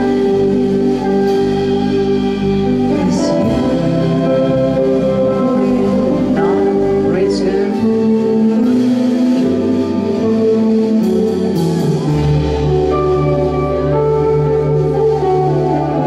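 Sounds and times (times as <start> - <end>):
bass guitar: 0.0 - 16.0
electric guitar: 0.0 - 16.0.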